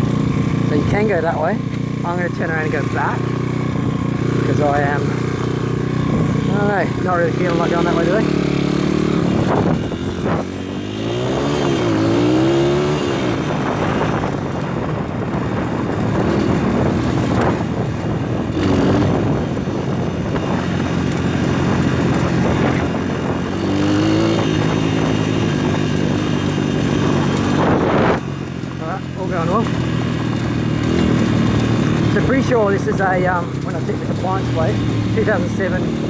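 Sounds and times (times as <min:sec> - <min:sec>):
pit bike engine revving: 0:00.0 - 0:36.0.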